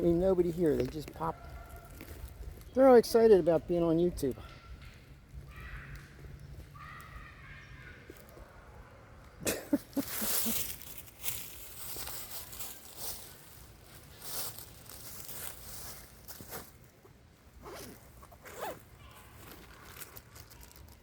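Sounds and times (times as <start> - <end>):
leaves and undergrowth rustling: 0.0 - 21.0.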